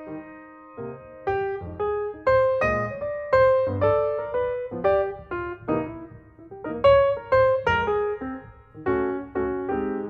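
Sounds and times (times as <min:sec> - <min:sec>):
piano-like keyboard notes: 0:00.0 - 0:10.0.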